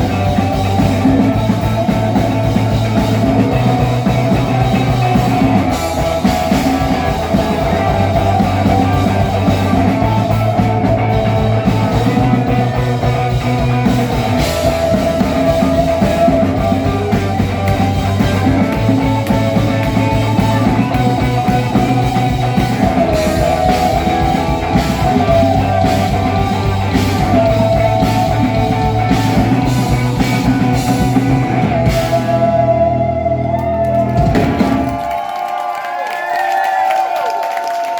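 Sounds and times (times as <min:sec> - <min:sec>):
rock band playing: 0:00.0 - 0:35.6.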